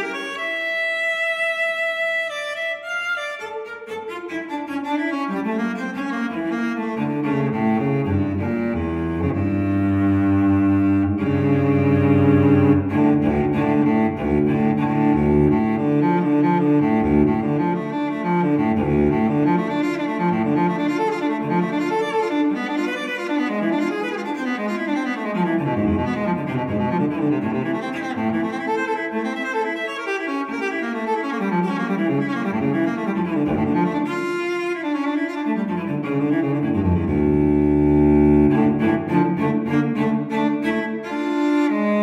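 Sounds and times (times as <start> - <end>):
low bowed strings music: 0.0 - 42.0.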